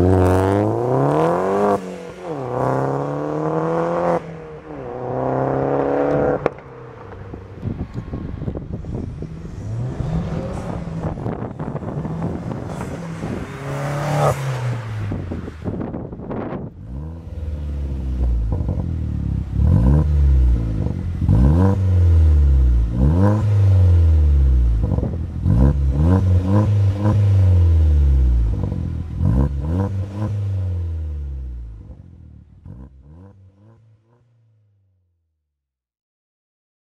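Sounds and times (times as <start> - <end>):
car engine revving: 0.0 - 34.2.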